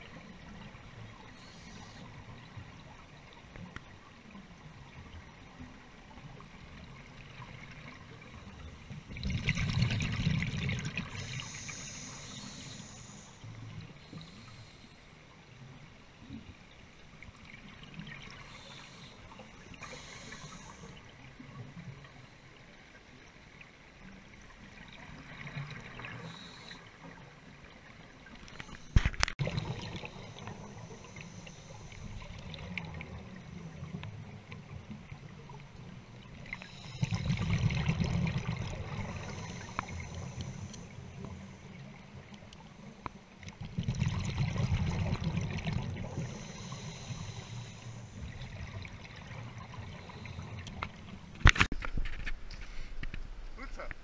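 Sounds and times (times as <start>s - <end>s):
underwater bubbling and gurgling: 0.0s - 54.0s.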